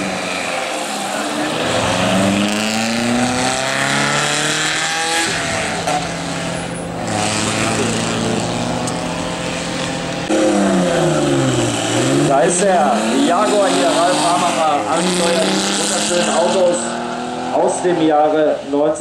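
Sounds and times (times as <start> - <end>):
second vintage car engine: 0.0 - 19.0
vintage car engine accelerating: 0.0 - 19.0.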